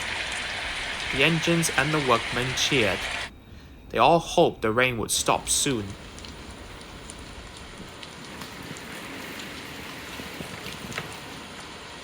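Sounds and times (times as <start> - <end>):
rain patter: 0.0 - 3.3, 5.0 - 12.0.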